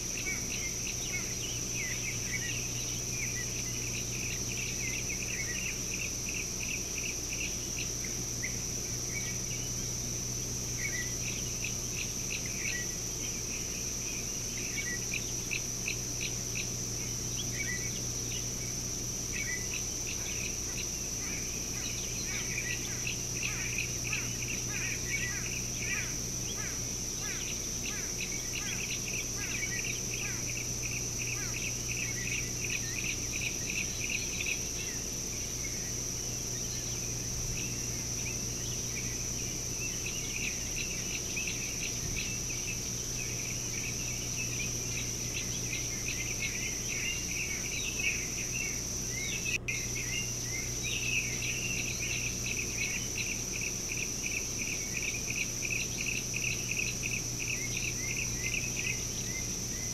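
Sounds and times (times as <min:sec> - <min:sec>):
insects droning and chirping: 0:00.0 - 0:59.9
low steady hum: 0:00.0 - 0:59.9.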